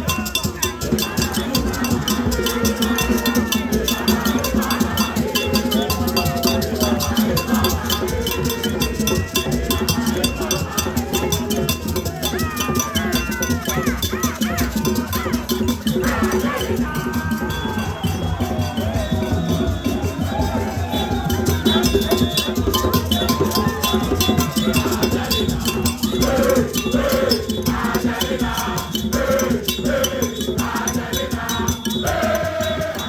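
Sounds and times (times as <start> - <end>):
cowbell struck in fast beat: 0.0 - 33.0
crowd singing and chanting: 0.0 - 33.0.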